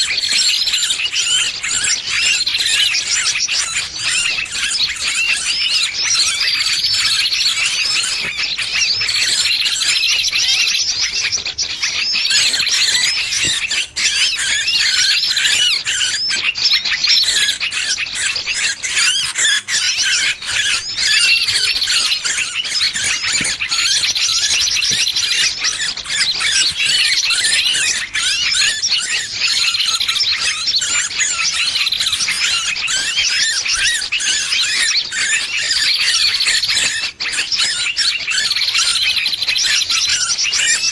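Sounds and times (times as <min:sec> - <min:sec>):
bird distress calls: 0:00.0 - 0:40.9.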